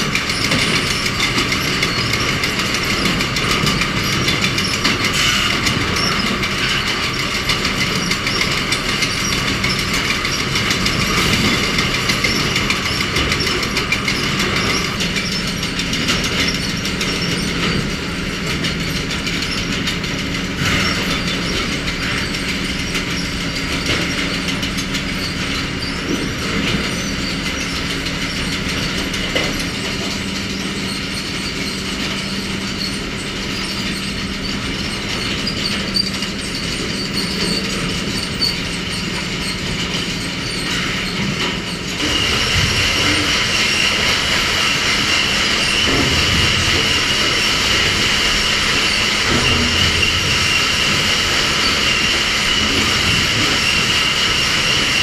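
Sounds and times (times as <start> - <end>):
conveyor machinery clatter: 0.0 - 55.0
low machinery hum: 0.0 - 55.0.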